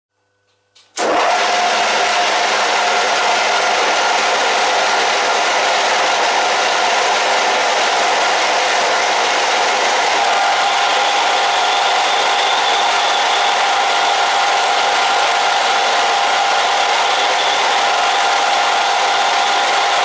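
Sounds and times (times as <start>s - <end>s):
lathe drilling into metal: 1.0s - 20.0s
steady machine whine: 1.0s - 20.0s.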